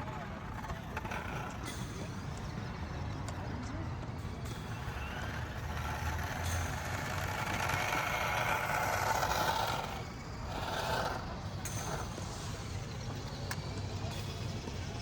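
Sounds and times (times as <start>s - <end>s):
toy truck motor whirring: 0.0s - 15.0s.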